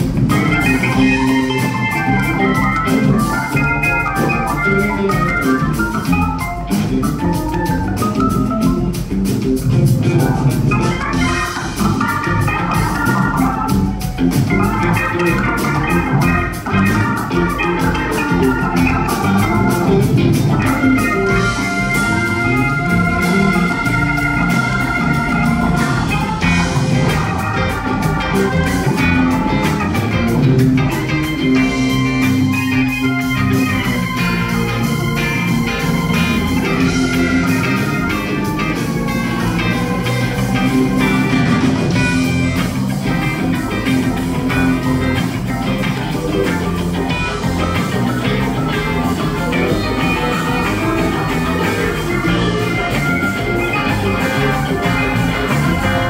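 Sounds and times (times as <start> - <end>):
drum kit: 0.0 - 56.0
electric bass: 0.0 - 56.0
organ-toned keyboard: 0.0 - 56.0.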